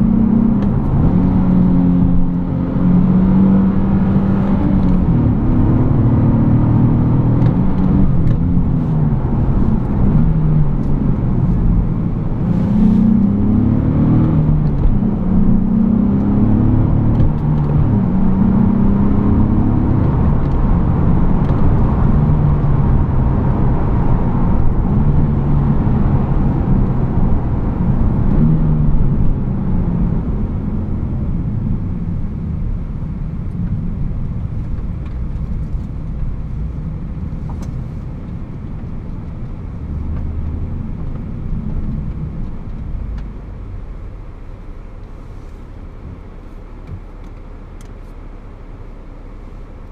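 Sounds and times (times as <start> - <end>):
car engine revving: 0.0 - 43.5.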